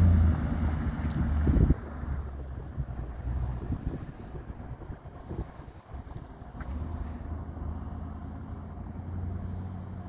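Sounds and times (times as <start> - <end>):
car exhaust rumbling: 0.0 - 10.0.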